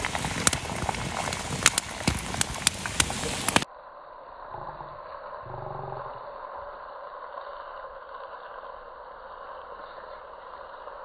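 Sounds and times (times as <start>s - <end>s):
sausages sizzling in a pan: 0.0s - 3.7s, 4.6s - 11.0s.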